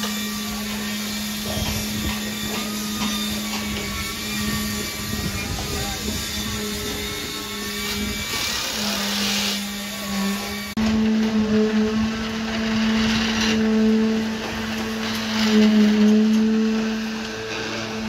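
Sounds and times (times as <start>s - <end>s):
motor humming steadily: 0.0s - 18.0s.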